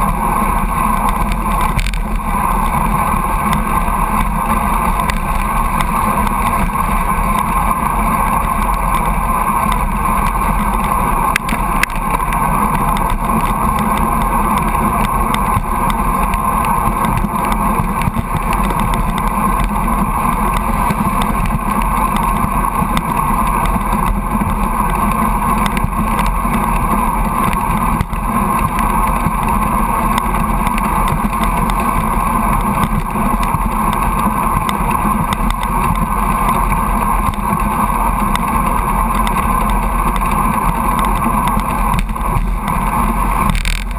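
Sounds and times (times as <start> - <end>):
bike tyre and engine noise: 0.0 - 43.9
truck low rumble: 0.0 - 43.9.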